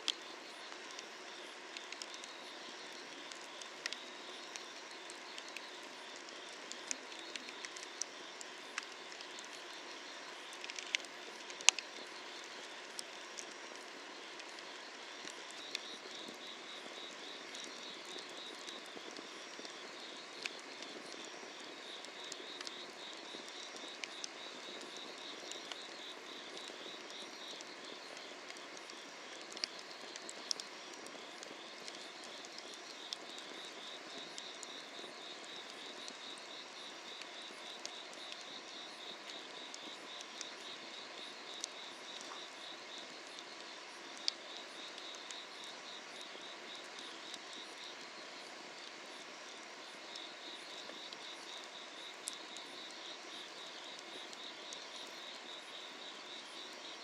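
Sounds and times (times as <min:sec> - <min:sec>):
firewood crackling and popping: 0:00.0 - 0:56.9
insects chirping: 0:00.1 - 0:57.0.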